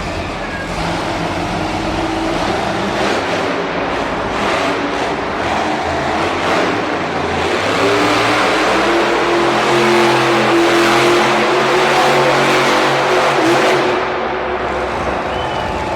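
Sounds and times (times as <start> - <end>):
monster truck engine revving: 0.0 - 15.9.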